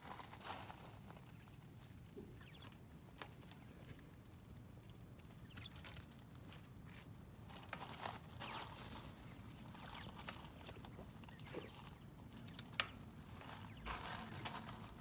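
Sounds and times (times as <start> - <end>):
bird feet rustling in dry leaves: 0.0 - 15.0.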